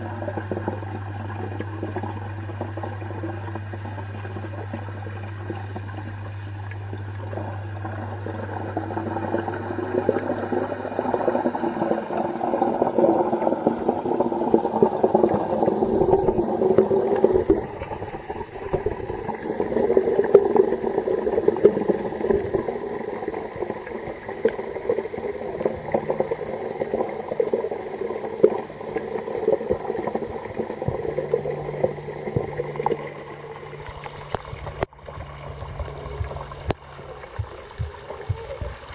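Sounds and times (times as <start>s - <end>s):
low underwater hum: 0.0s - 38.9s
water bubbling and gurgling: 0.0s - 38.9s.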